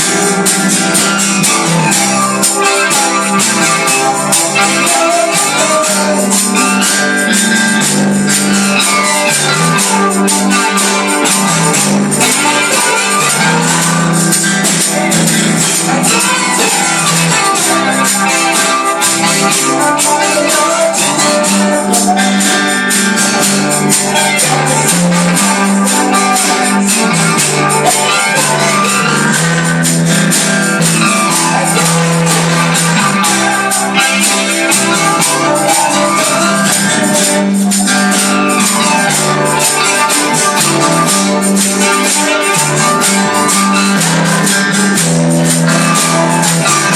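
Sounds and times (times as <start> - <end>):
gospel band playing: 0.0 - 46.9
tambourine shaking: 0.0 - 46.9.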